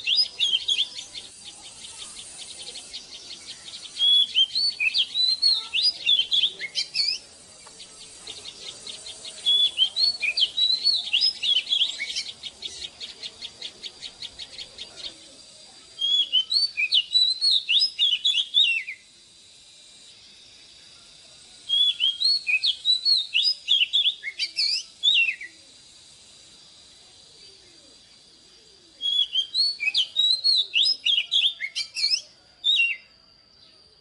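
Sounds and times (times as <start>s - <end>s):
songbird whistling phrases: 0.0s - 19.1s, 21.6s - 25.6s, 27.1s - 33.9s.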